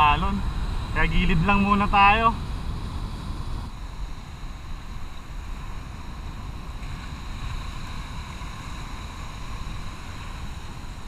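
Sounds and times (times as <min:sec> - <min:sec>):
choppy sea surf: 0:00.0 - 0:11.0
wind on microphone: 0:00.0 - 0:11.0.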